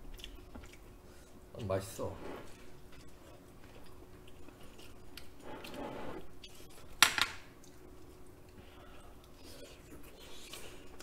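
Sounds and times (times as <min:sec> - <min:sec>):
faint chewing: 0:00.0 - 0:01.8, 0:02.5 - 0:11.0.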